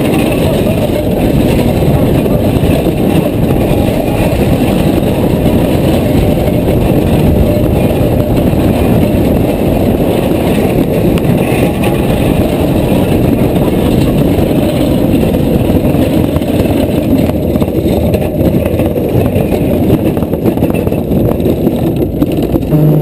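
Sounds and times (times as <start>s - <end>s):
bobsled wheels rumbling on concrete: 0.0s - 23.0s.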